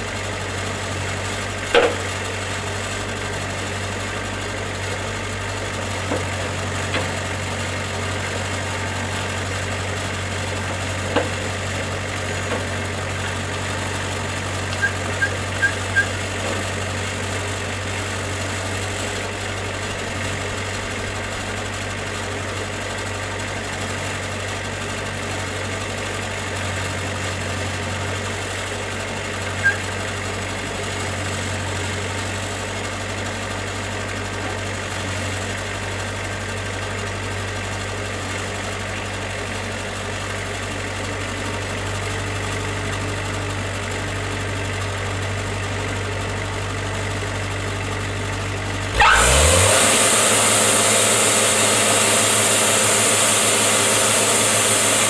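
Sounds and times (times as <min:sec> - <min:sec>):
sawmill engine idling: 0:00.0 - 0:55.0.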